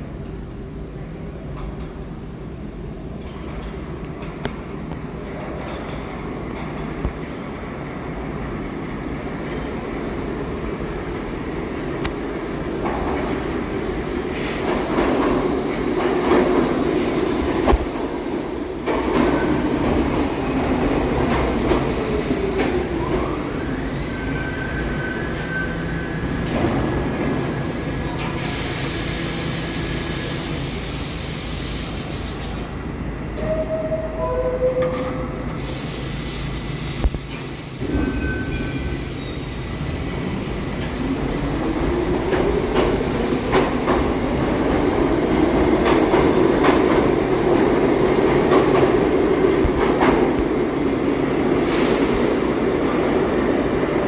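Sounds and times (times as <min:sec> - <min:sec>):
subway train running: 0:00.0 - 0:54.0.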